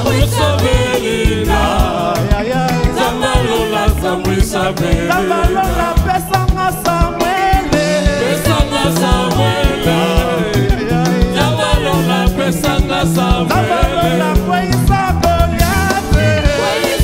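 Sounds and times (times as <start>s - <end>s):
drum kit fast beat: 0.0s - 17.0s
live gospel band: 0.0s - 17.0s
voices singing: 0.0s - 17.0s.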